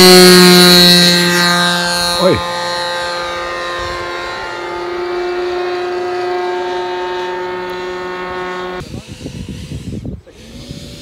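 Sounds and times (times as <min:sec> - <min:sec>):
model airplane motor droning: 0:00.0 - 0:11.0.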